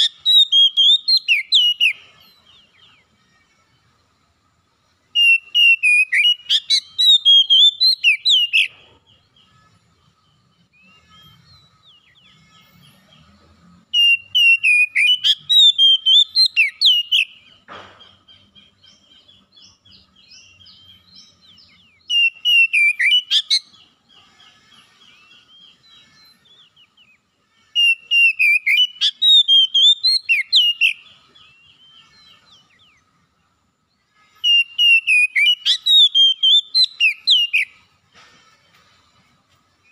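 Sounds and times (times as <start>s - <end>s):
bird whistled song: 0.0s - 3.1s, 5.1s - 33.1s, 34.3s - 38.0s.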